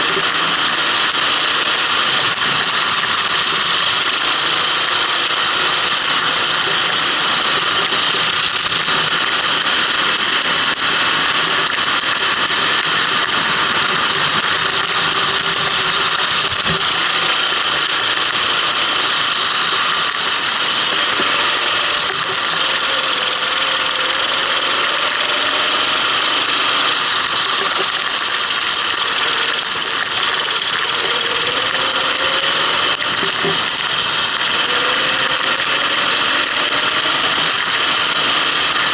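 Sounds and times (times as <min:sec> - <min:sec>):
kart engine running: 0:00.0 - 0:38.9.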